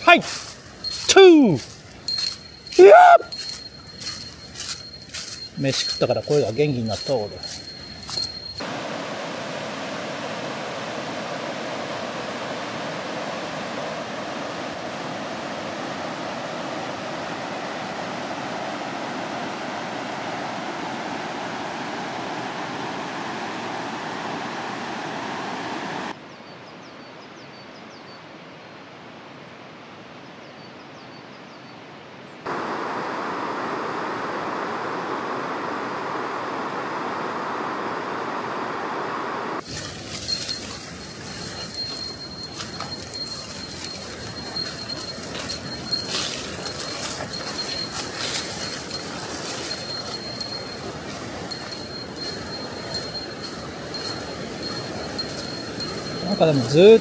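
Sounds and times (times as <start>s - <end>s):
mountain stream rushing: 0.0s - 26.2s, 32.5s - 57.0s.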